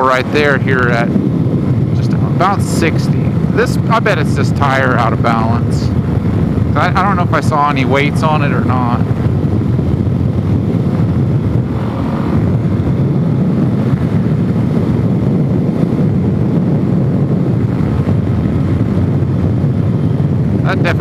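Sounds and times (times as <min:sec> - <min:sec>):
motorcycle engine cruising: 0:00.0 - 0:21.0
wind on microphone: 0:00.0 - 0:21.0.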